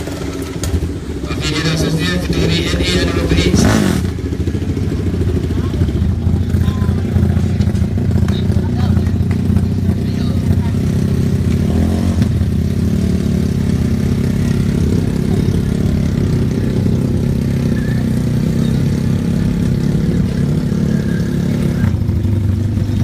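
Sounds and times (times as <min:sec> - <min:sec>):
motorbike engines droning: 0:00.0 - 0:23.0.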